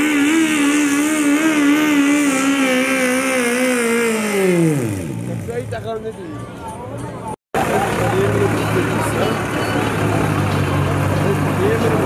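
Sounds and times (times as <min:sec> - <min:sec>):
tractor engine at high revs: 0:00.0 - 0:05.9, 0:07.6 - 0:12.0.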